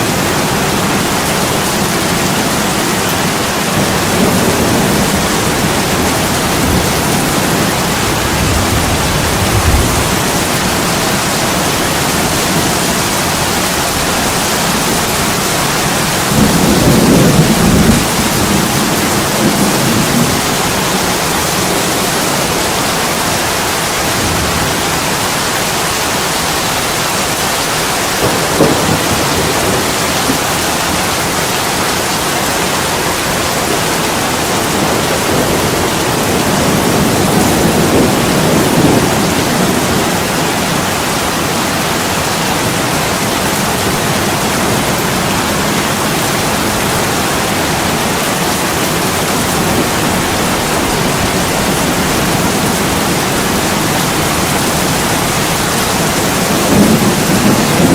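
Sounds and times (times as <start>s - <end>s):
heavy rain: 0.0s - 57.9s
thunder rolling: 3.4s - 23.3s, 28.1s - 41.2s, 43.6s - 57.9s.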